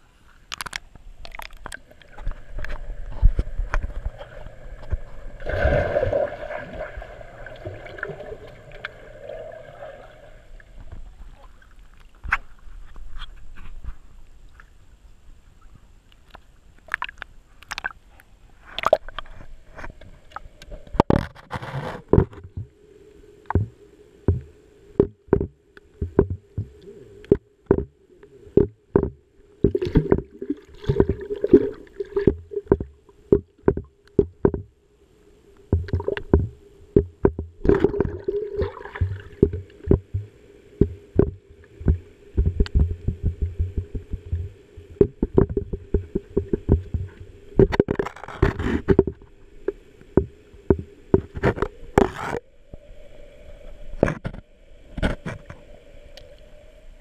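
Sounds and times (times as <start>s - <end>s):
muffled water sloshing and gurgling: 0.0s - 14.2s, 16.8s - 34.8s, 35.6s - 57.0s
steady hum: 0.8s - 11.6s, 22.1s - 57.0s.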